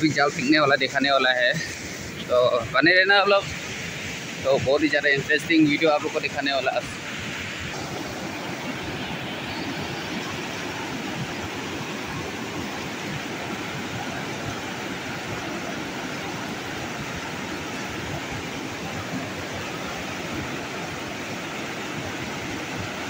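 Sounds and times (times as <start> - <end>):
river rapids rushing: 0.0 - 23.0.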